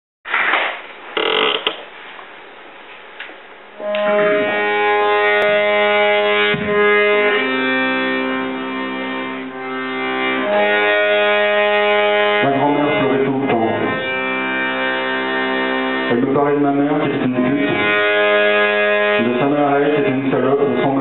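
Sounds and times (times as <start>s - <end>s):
accordion playing held chords: 3.7s - 21.0s.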